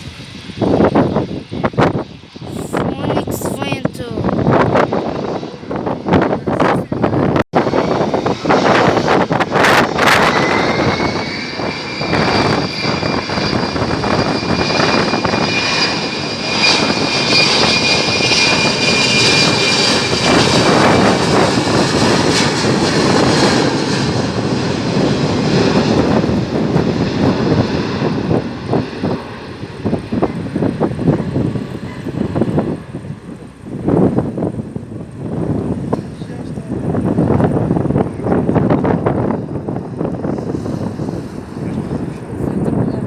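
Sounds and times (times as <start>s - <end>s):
high jet whine: 0.0s - 43.0s
jet engines roaring: 0.0s - 43.0s
wind buffeting microphone: 0.0s - 43.0s.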